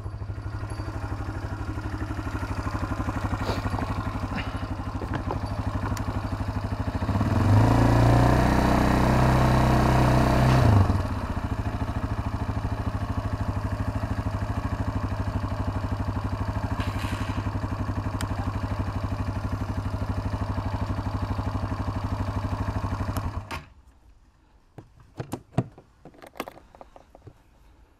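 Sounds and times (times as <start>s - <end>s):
atv engine revving and idling: 0.0s - 23.5s.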